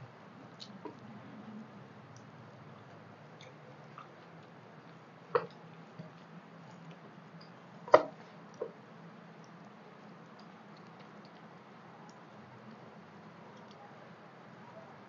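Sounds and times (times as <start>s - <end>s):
quiet chewing: 0.5s - 7.6s, 8.2s - 14.0s.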